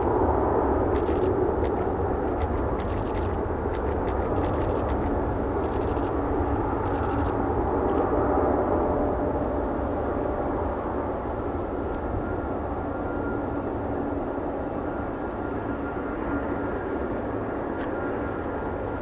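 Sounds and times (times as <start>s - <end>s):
jet engines running at low power: 0.0s - 19.0s.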